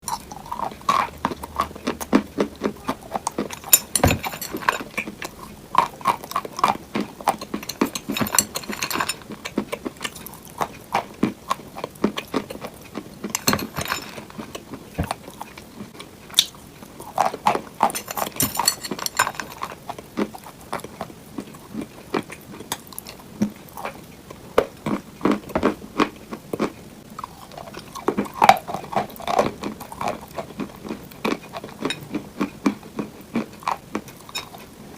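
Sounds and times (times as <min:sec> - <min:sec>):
crunchy biting and chewing: 0:00.0 - 0:34.9.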